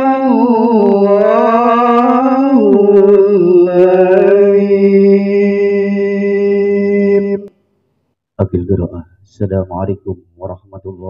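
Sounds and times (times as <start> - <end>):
man reciting melodically: 0.0 - 7.5, 8.4 - 11.0.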